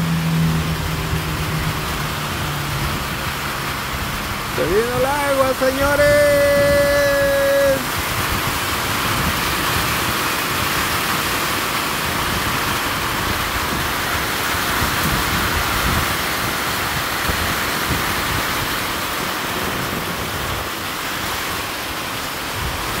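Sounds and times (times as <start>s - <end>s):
heavy rain on metal roof: 0.0s - 23.0s.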